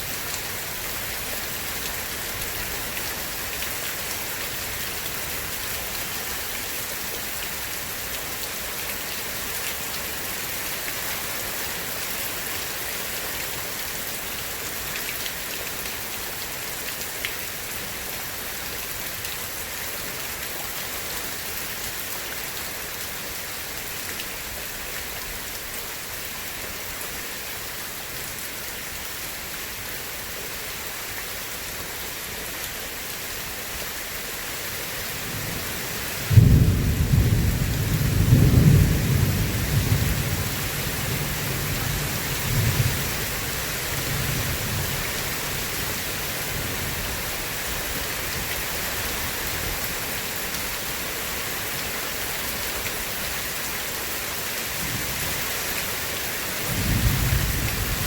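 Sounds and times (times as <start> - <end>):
steady rain on a surface: 0.0 - 58.0.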